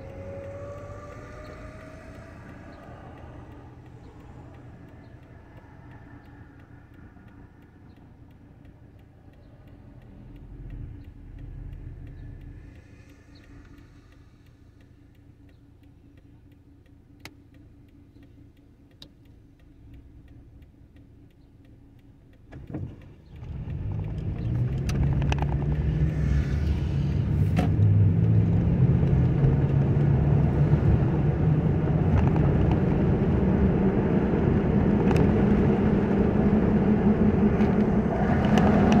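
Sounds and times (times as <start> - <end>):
car engine revving: 0.0 - 16.1, 22.5 - 39.0
car engine idling: 0.0 - 39.0
road and tyre noise: 0.0 - 39.0.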